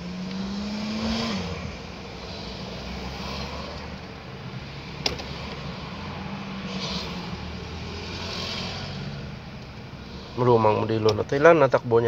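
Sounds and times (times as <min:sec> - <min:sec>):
car engine from inside cabin: 0:00.0 - 0:12.0
road noise: 0:00.0 - 0:12.0.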